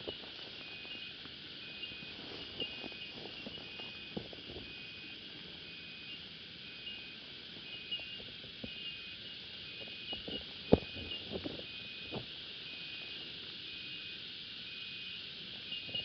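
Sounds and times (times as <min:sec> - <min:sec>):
cicadas hissing: 0:00.0 - 0:16.0.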